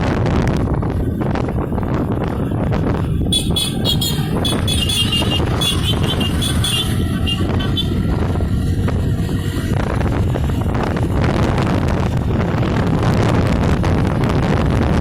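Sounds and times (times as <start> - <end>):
wind on microphone: 0.0 - 15.0
motorcycle engine running: 0.1 - 15.0.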